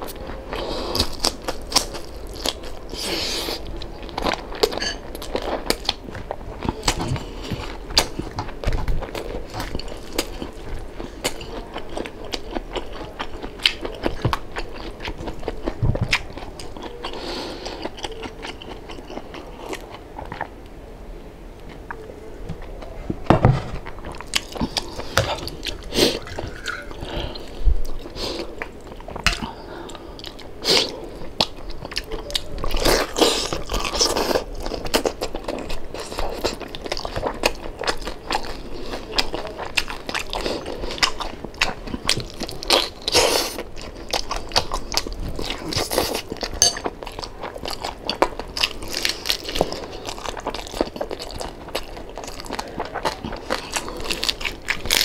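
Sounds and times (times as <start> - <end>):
crunchy chewing: 0.0 - 20.6, 23.7 - 55.0.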